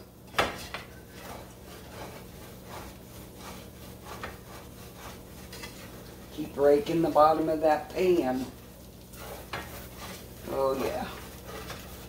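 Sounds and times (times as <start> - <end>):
utensil scraping in a skillet: 0.0 - 12.0.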